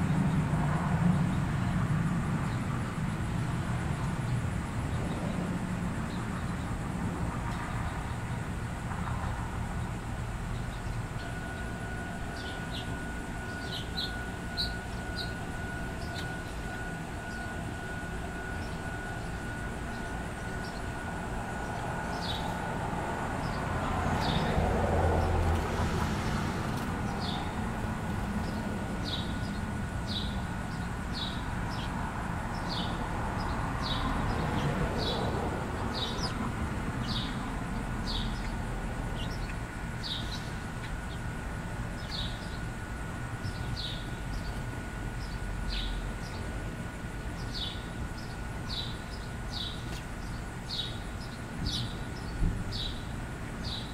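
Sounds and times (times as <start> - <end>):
passing vehicle or aircraft: 0.0 - 49.6
distant traffic rumble: 0.0 - 53.9.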